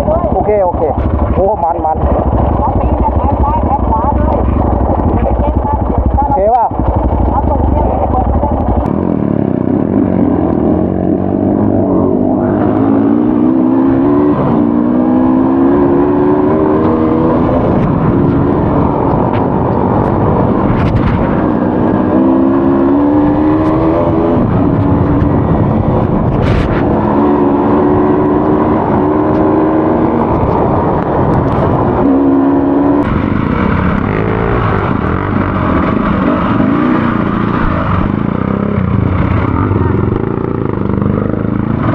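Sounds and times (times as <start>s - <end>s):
motorcycle engine revving: 0.0s - 41.9s
steady rushing noise: 0.0s - 41.9s.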